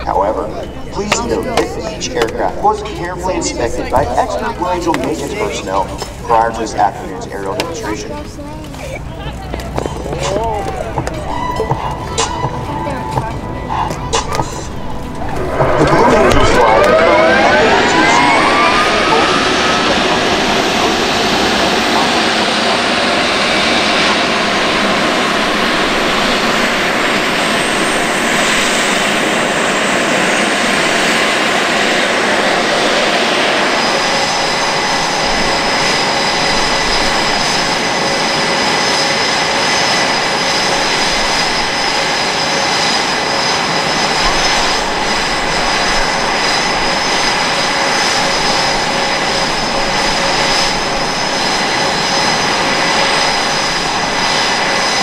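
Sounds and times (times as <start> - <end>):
high whining tones: 0.0 - 55.0
jet engines whining: 0.0 - 55.0.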